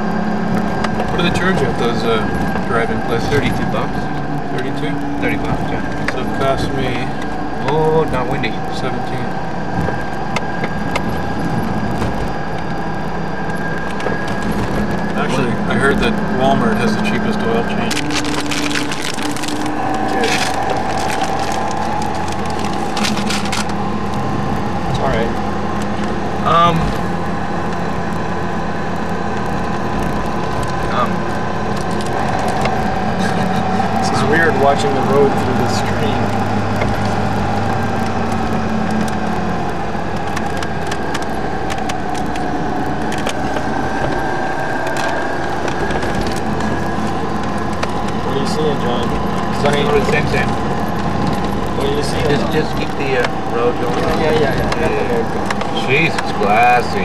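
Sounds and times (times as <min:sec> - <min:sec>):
car engine and road drone: 0:00.0 - 0:57.0
crackling rattles: 0:00.3 - 0:57.0.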